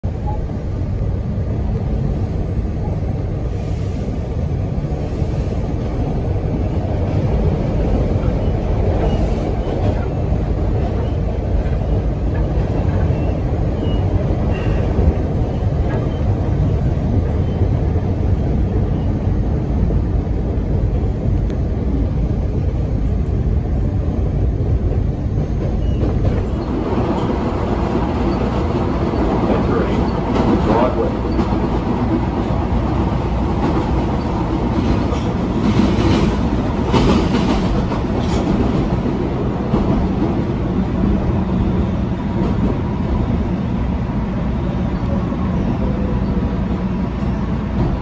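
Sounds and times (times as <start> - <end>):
train low rumble: 0.0 - 48.0.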